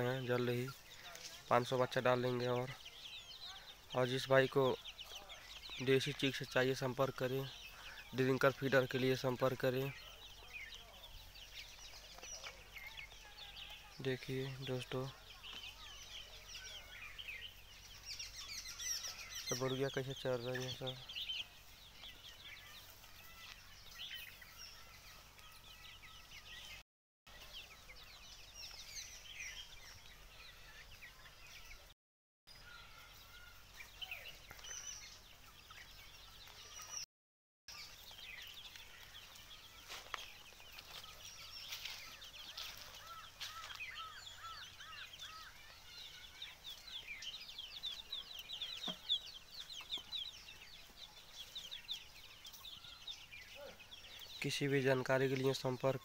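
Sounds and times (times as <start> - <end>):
chickens peeping and clucking: 0.0 - 31.9, 32.6 - 37.0, 37.7 - 56.0.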